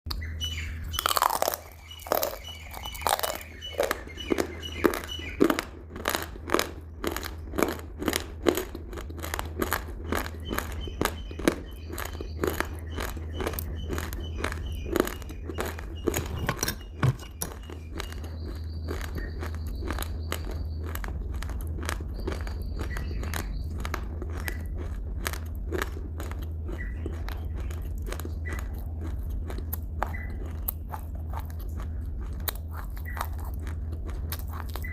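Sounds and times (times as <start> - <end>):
crunchy food chewing: 0.1 - 34.9
low hum: 0.1 - 34.9.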